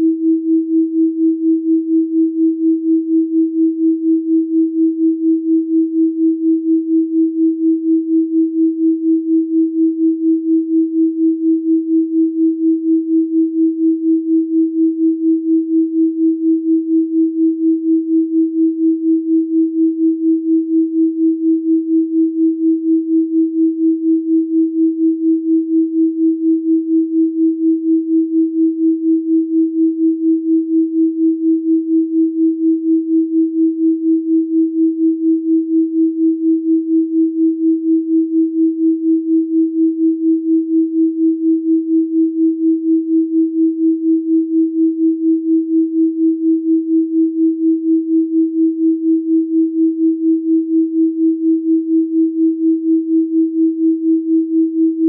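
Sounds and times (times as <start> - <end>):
pulsing sine tone: 0.0 - 55.0.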